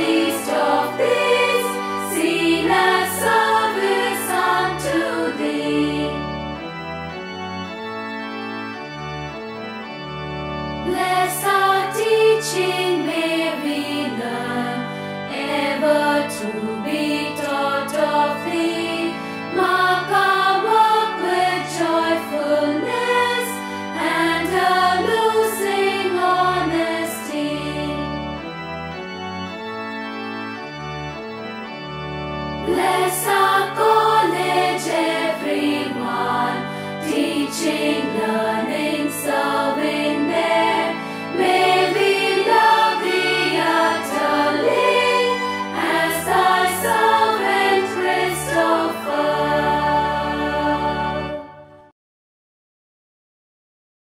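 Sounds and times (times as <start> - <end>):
choir singing a hymn: 0.0 - 6.8, 10.8 - 28.5, 32.6 - 51.9
organ chords: 0.0 - 51.9.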